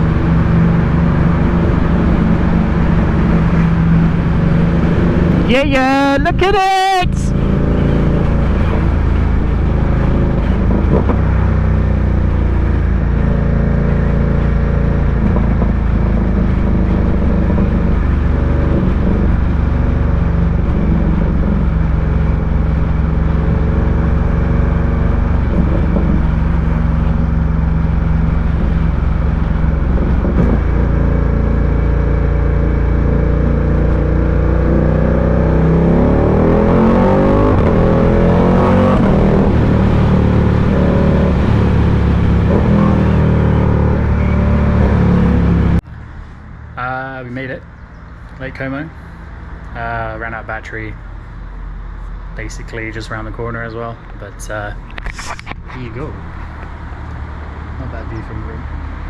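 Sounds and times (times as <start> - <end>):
motorcycle engine running: 0.0 - 50.3.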